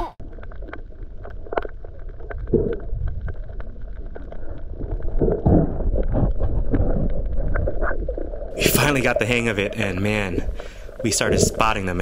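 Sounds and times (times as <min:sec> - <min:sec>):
water gurgling: 0:00.0 - 0:12.0
low underwater rumble: 0:00.2 - 0:12.0.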